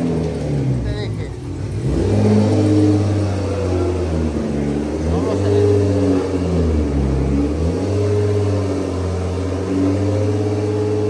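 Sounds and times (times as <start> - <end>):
car engine revving lightly: 0.0 - 11.0.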